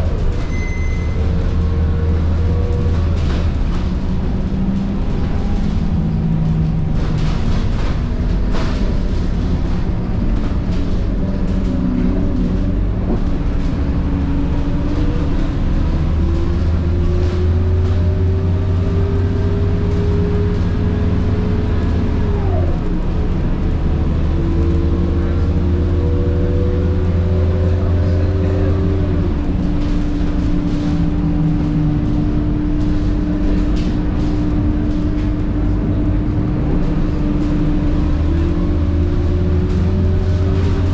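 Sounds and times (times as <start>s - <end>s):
heavy engine drone: 0.0s - 40.9s.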